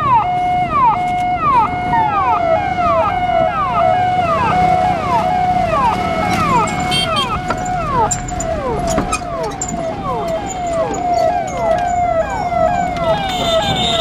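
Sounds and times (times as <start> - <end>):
ambulance siren: 0.0 - 14.0.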